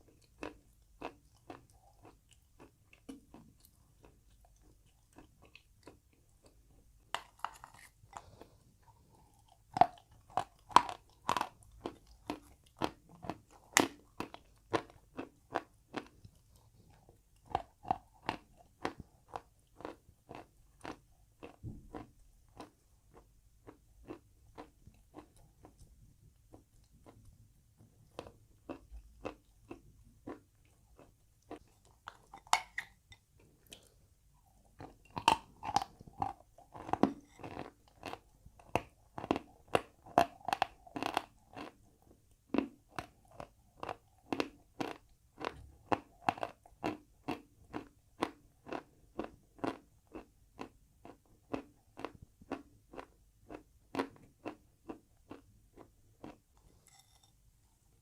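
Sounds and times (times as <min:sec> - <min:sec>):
crunchy chewing: 0:00.0 - 0:27.3, 0:28.1 - 0:57.3.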